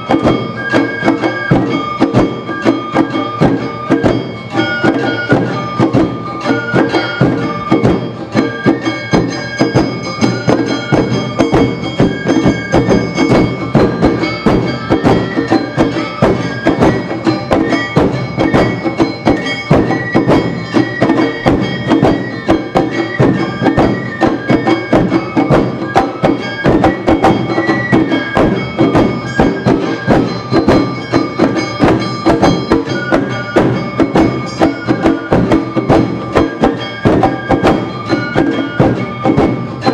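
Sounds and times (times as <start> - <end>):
bamboo flutes melody: 0.0 - 39.9
drums beating: 0.0 - 39.9
hand gongs: 0.0 - 39.9.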